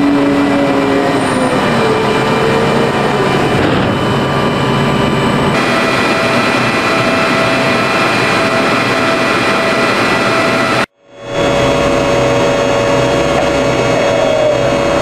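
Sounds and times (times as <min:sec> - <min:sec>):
gas turbine engine whining: 0:00.0 - 0:15.0.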